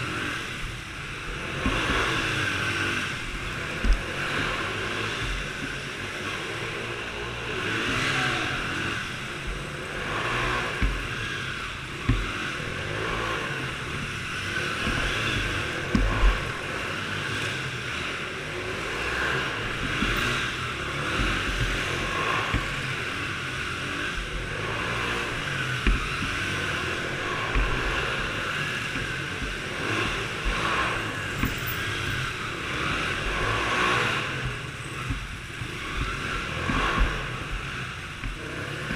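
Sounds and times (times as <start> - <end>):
small engines revving: 0.0 - 38.9.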